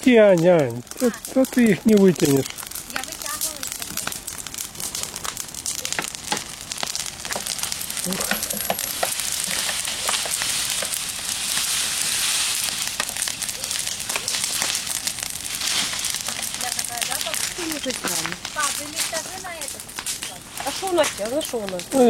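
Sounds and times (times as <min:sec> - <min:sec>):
bonfire crackling pops: 0:00.0 - 0:22.0
fire hissing rush: 0:00.0 - 0:22.0.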